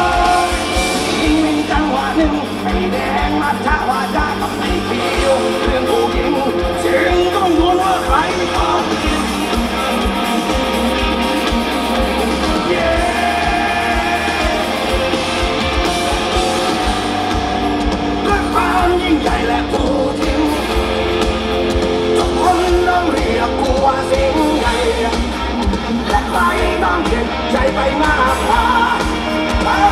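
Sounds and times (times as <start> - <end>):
person singing lead vocal: 0.0 - 10.5, 11.9 - 29.9
rock band playing live: 0.0 - 29.9
steady drum beat: 0.0 - 29.9.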